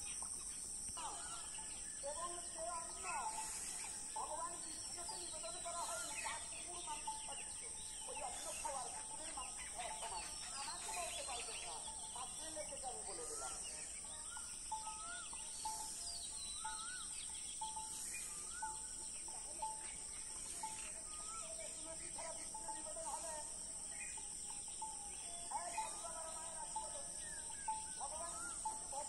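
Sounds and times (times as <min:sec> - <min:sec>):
birds whistled calls: 0:00.0 - 0:29.0
steady high-pitched hiss: 0:00.0 - 0:29.0.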